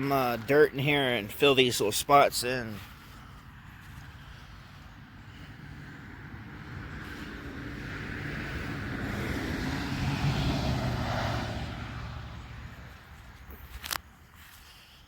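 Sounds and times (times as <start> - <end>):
passing engine: 0.0 - 14.5.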